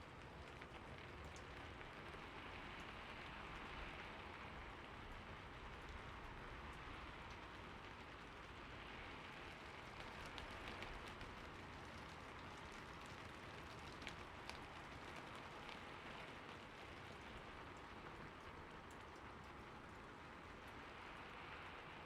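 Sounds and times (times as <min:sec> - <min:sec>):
soft steady rainfall: 0:00.0 - 0:22.0.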